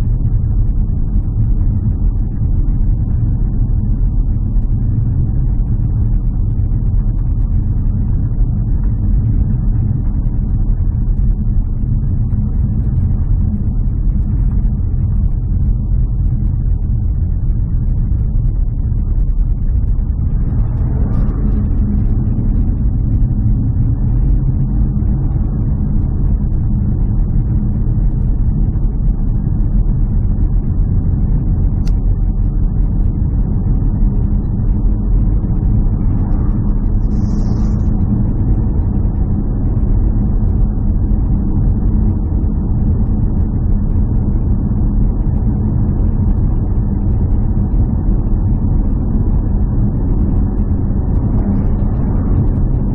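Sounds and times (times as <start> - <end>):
low engine drone: 0.0 - 52.9.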